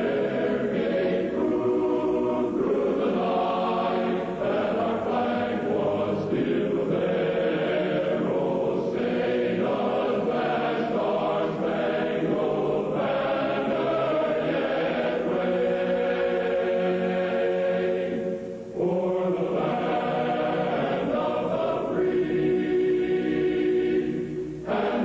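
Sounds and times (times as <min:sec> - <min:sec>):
choir singing slow chords: 0:00.0 - 0:25.0.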